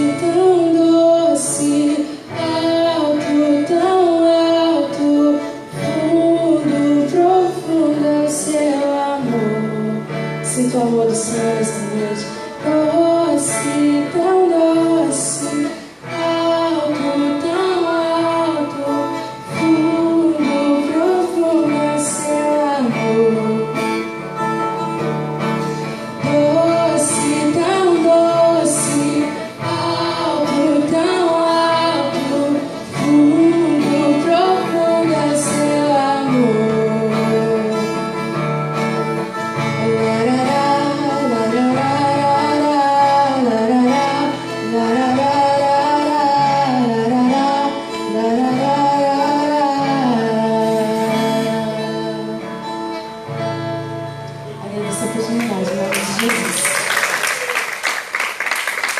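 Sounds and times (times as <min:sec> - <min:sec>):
guitar accompaniment: 0:00.0 - 0:58.9.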